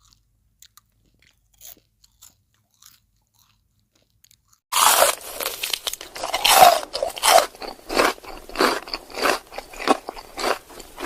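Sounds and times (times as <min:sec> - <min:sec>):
person chewing popcorn: 0:00.0 - 0:11.0.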